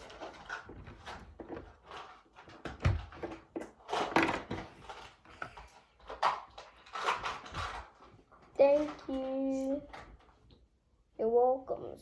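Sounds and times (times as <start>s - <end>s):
plastic pieces clicking: 0.0s - 10.3s.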